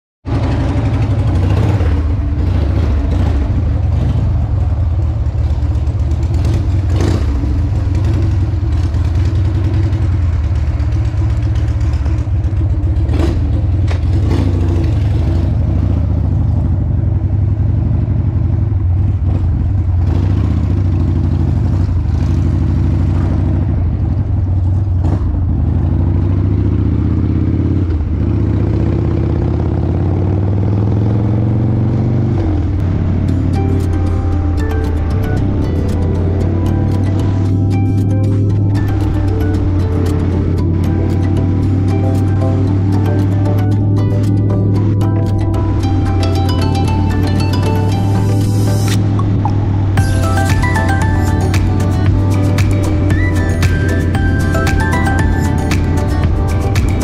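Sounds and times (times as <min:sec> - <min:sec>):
motorcycle engine running: 0:00.2 - 0:57.0.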